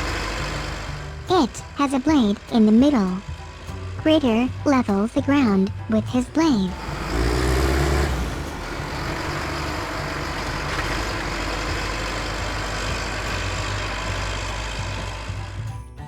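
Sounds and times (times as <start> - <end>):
heavy grader engine running: 0.0 - 16.0.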